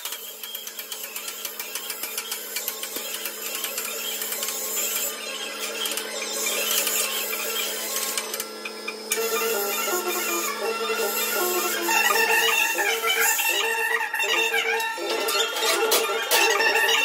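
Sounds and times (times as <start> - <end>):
metalworking machinery humming: 0.0 - 17.0.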